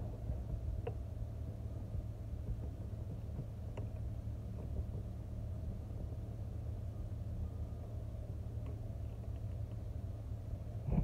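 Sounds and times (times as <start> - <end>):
low rumble of shop noise: 0.0 - 11.0.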